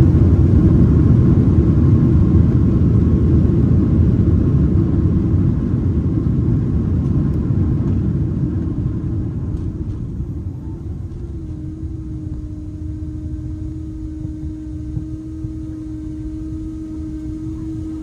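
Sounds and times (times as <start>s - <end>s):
aircraft wheels and engines rumbling: 0.0s - 18.0s
faint steady whine: 0.0s - 18.0s.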